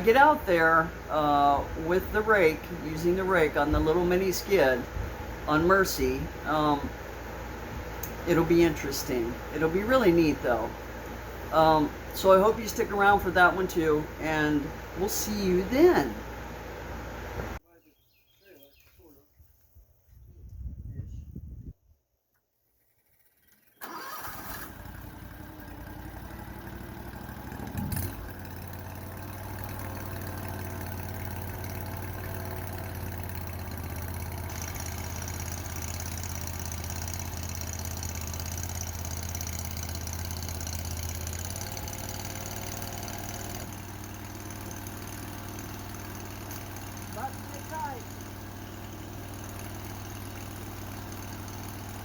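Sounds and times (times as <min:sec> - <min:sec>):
small engine starting and idling: 0:00.0 - 0:17.6, 0:22.6 - 0:52.0.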